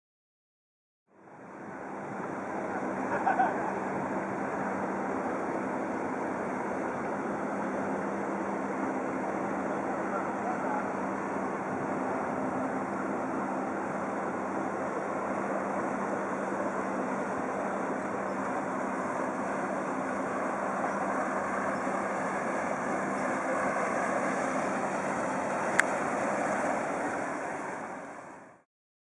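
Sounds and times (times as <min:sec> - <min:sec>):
faint boat engine hum: 0:01.1 - 0:28.6
wind: 0:01.1 - 0:28.6
water wash: 0:01.4 - 0:28.6.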